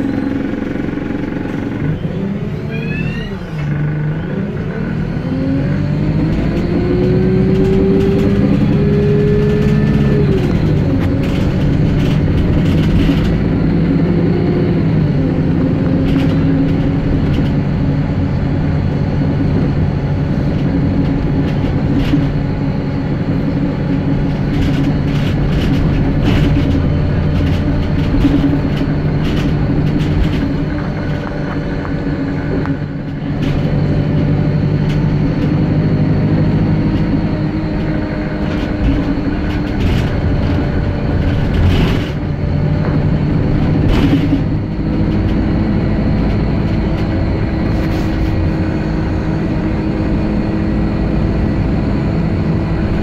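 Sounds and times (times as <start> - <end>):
bus engine running: 0.0 - 53.0
road noise: 0.0 - 53.0
interior rattles: 6.2 - 51.4.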